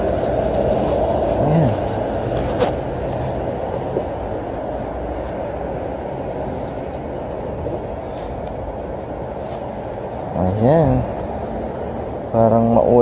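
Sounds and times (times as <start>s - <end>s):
car traffic: 0.0s - 13.0s.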